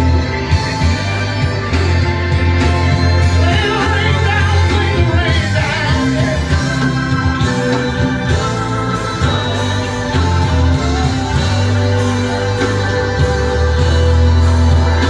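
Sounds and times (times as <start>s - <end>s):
gospel song with singer: 0.0s - 15.0s.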